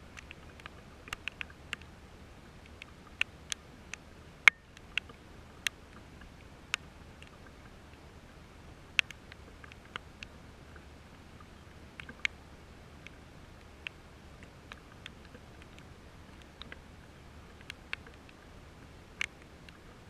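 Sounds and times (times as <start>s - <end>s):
raindrops ticking on hard surface: 0.0s - 20.0s
steady low hiss: 0.0s - 20.0s.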